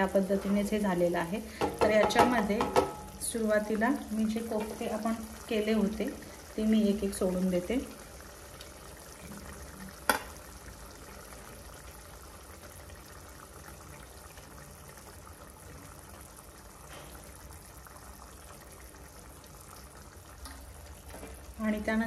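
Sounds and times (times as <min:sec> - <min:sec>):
curry bubbling: 0:00.0 - 0:22.0.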